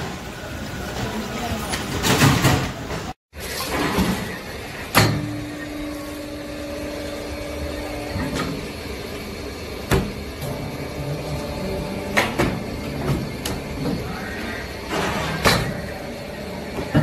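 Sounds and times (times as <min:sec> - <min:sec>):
factory machine hum: 0:00.0 - 0:17.0.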